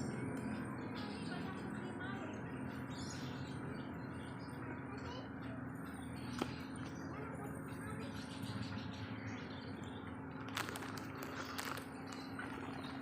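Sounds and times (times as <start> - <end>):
murmur of distant voices: 0.0 - 13.0
small birds chirping: 0.0 - 13.0.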